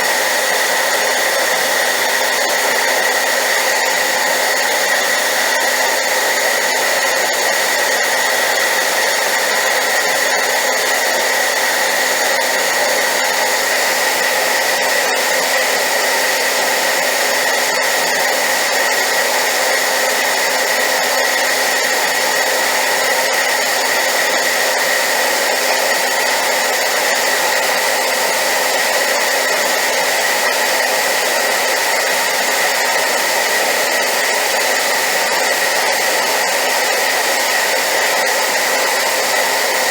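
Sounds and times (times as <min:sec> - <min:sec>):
hairdryer running: 0:00.0 - 0:39.9.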